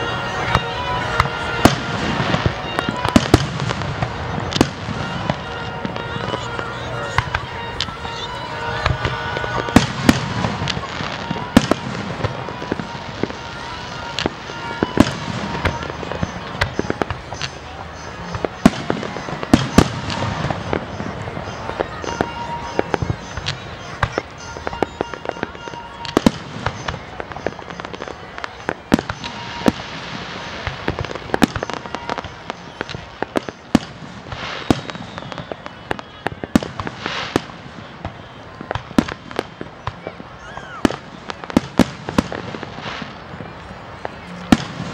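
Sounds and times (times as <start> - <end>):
fireworks bursting bangs: 0.0 - 44.9.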